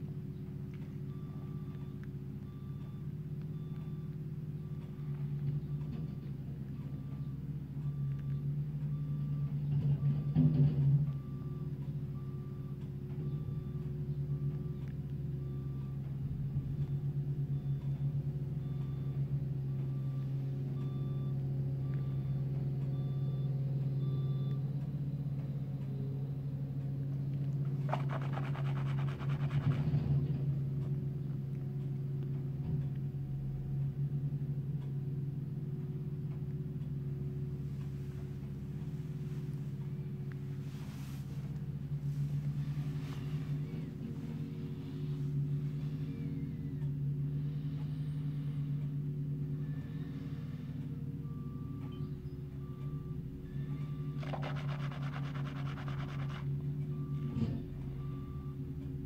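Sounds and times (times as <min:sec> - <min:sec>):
reversing alarm beeps: 0:00.0 - 0:31.0, 0:35.1 - 0:59.0
diesel engines running: 0:00.0 - 0:59.0.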